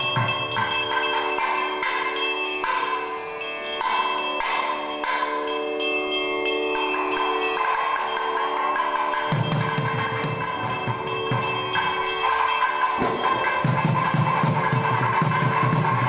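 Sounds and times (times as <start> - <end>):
brass hand bells ringing: 0.0 - 16.0.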